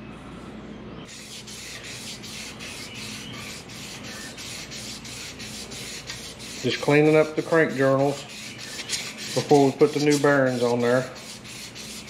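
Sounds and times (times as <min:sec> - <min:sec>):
abrasive paper rasping on metal: 0:01.1 - 0:12.0.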